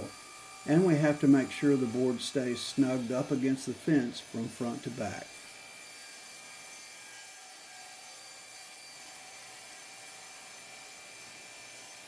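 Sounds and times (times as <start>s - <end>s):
table saw humming with high whine: 0.0s - 12.0s.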